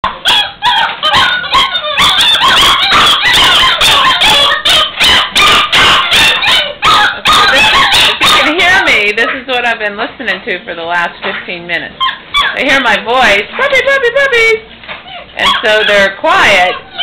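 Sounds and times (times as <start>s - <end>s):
puppies barking and yipping: 0.0s - 9.7s, 11.9s - 17.0s.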